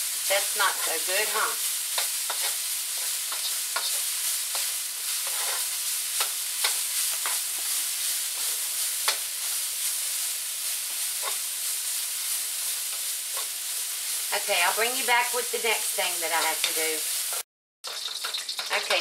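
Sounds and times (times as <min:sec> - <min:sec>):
vegetables sizzling in a wok: 0:00.0 - 0:19.0
wooden spoon scraping a pan: 0:00.5 - 0:19.0.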